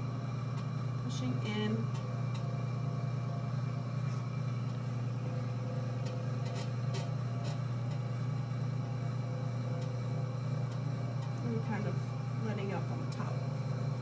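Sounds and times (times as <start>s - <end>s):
pottery wheel humming: 0.0s - 14.0s.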